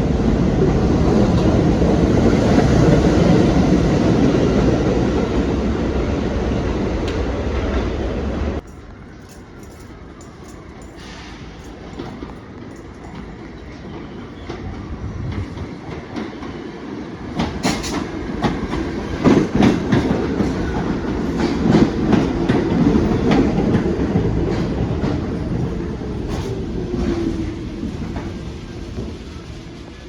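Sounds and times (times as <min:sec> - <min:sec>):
subway train wheels clicking: 0:00.0 - 0:30.0.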